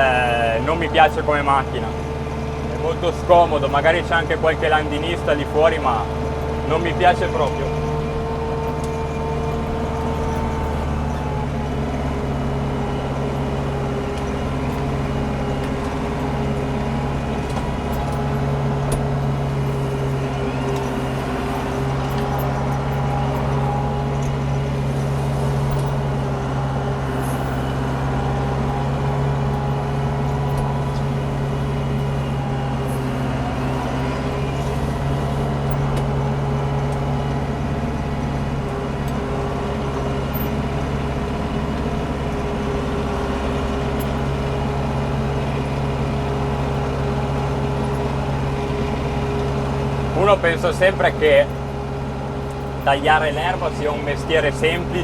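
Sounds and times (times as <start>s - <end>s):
flail mower chopping grass: 0.0s - 55.0s
tractor diesel engine running: 0.0s - 55.0s.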